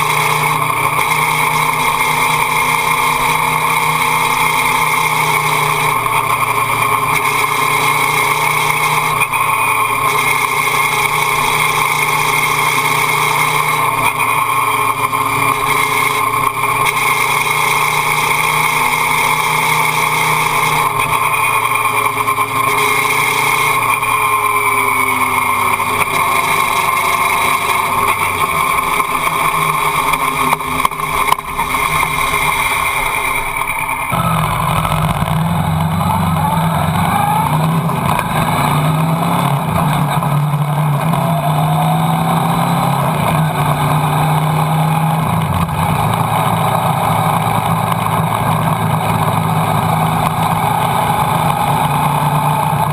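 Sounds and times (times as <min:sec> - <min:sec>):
motorcycle engine running: 0:00.0 - 0:52.9
road noise: 0:00.0 - 0:52.9.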